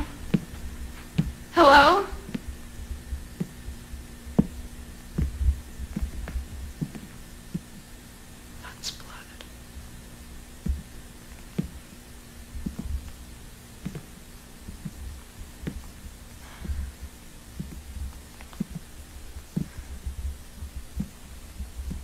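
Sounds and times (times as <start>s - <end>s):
footsteps on wooden floor: 0.0s - 8.6s, 9.4s - 22.0s
faint steady hum: 0.0s - 22.0s.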